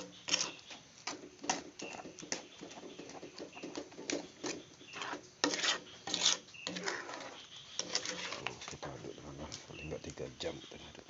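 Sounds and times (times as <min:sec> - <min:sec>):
spatula scraping paste in pan: 0:00.0 - 0:08.9.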